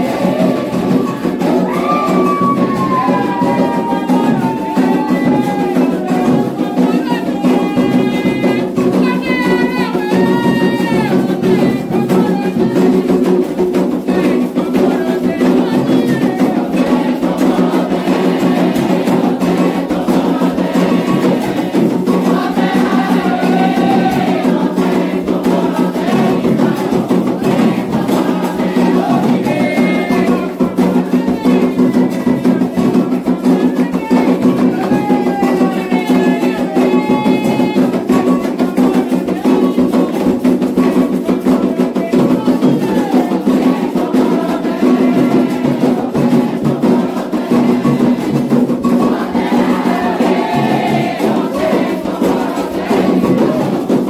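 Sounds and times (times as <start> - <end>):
drums beating steady rhythm: 0.0 - 54.0
group singing: 0.0 - 54.0.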